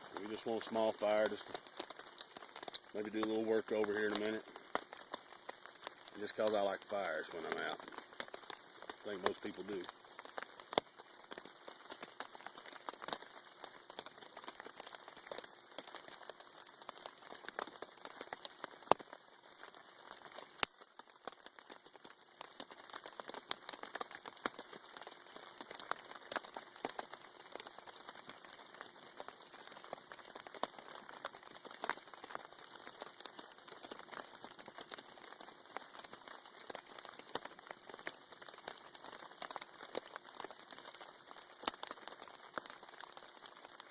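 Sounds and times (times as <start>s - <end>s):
rain pattering on a tarp: 0.0s - 43.9s
sharp crackles and clicks: 0.0s - 43.9s.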